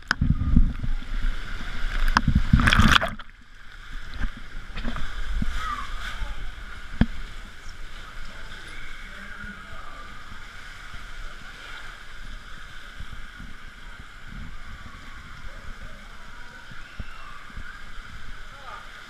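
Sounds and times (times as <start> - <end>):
water rushing on slide: 0.0 - 19.0.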